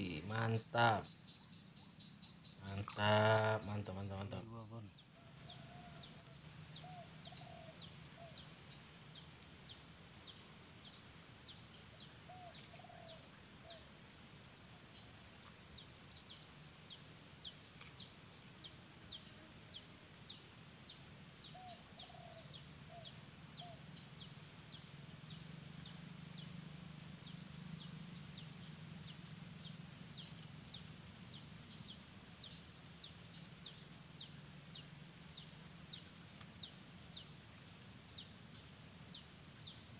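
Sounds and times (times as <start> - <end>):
lower bird calls: 0.0 - 13.9, 15.0 - 26.6, 27.2 - 39.9.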